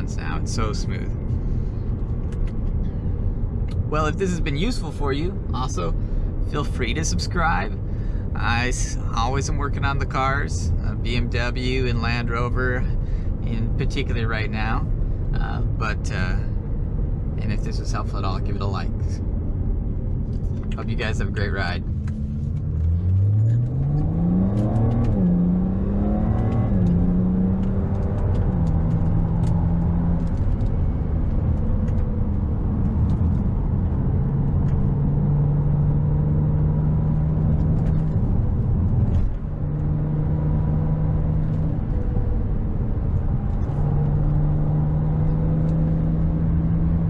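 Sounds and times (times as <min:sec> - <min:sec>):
car engine revving and cruising: 0:00.0 - 0:47.0.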